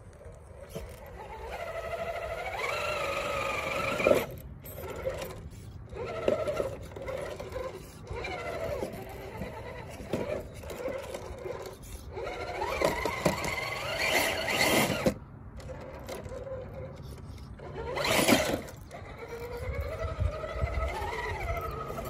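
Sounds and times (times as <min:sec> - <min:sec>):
electric motor and drivetrain whining: 0:00.0 - 0:22.0.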